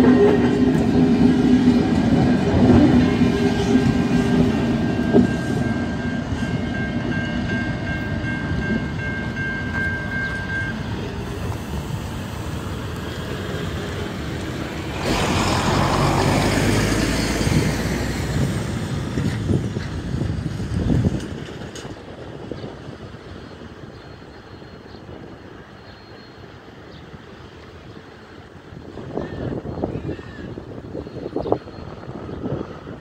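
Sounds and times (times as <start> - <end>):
wind buffeting microphone: 0.0 - 24.0, 27.9 - 33.0
diesel locomotives passing: 0.0 - 33.0.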